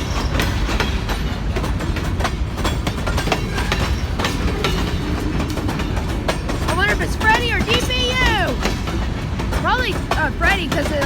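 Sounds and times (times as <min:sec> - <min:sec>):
freight train rumbling past: 0:00.0 - 0:11.0
wheels clicking over rail joints: 0:00.0 - 0:11.0.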